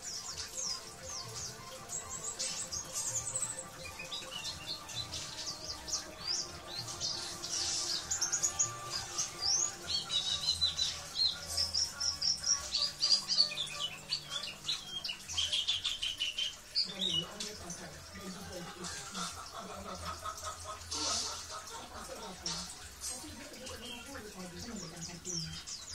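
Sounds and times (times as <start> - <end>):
birds twittering and trilling: 0.0 - 25.9.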